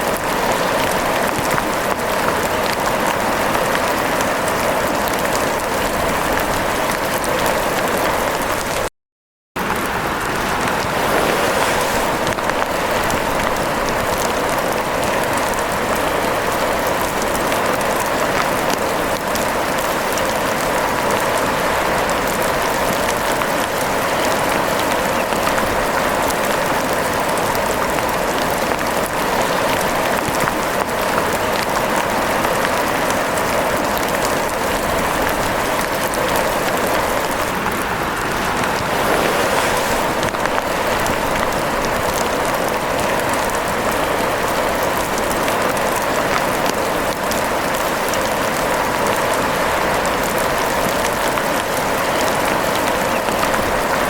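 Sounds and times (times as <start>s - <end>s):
steady rain: 0.0s - 8.9s, 9.6s - 54.0s.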